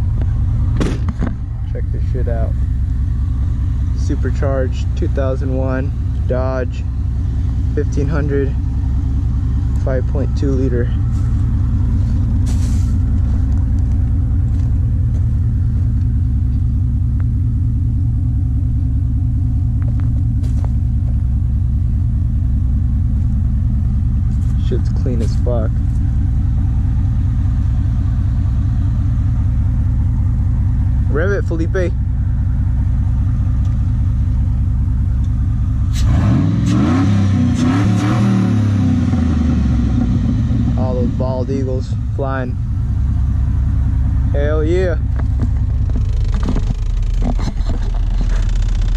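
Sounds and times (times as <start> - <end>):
engine idling: 0.0 - 37.8, 38.5 - 48.9.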